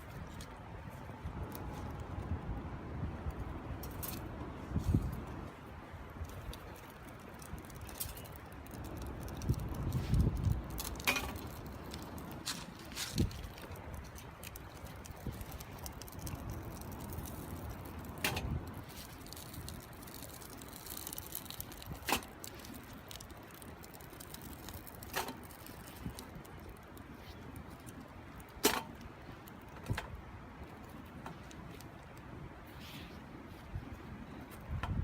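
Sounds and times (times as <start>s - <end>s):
wood fire low rush: 0.0s - 35.0s
fire crackling pops: 3.2s - 32.3s.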